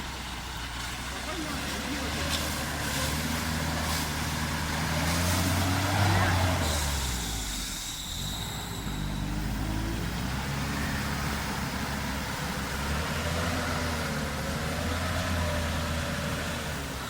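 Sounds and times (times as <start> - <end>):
engine running under load: 0.0 - 17.0.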